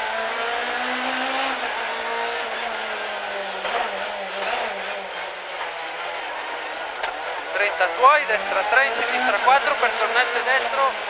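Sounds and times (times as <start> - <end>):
rally car engine under load: 0.0 - 11.0.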